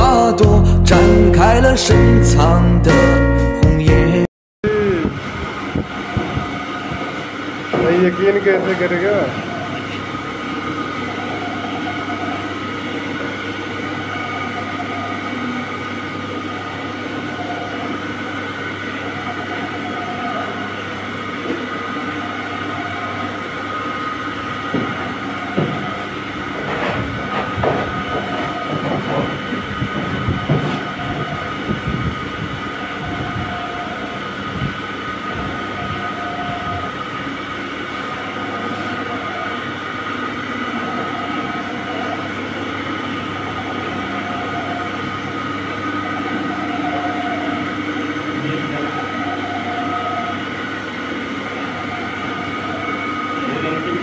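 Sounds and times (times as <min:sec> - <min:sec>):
noodle machine whine and hum: 0:00.0 - 0:54.0.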